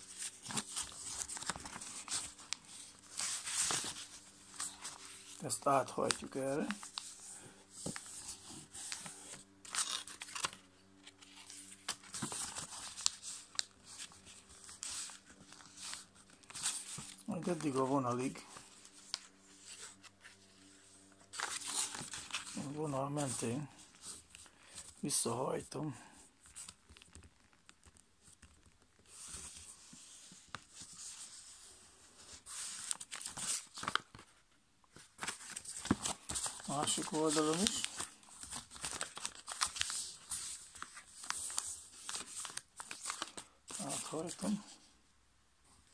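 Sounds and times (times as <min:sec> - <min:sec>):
paper crackles: 0:00.0 - 0:25.3, 0:26.4 - 0:44.9
paper rustling and crinkling: 0:00.0 - 0:25.5, 0:26.4 - 0:44.9.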